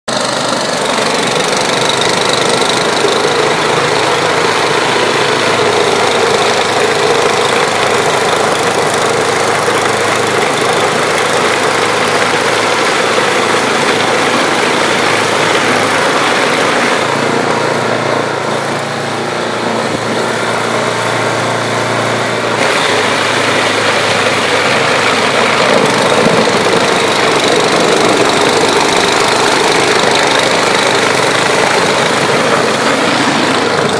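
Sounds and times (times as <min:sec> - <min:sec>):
snowblower engine running: 0:00.1 - 0:33.9.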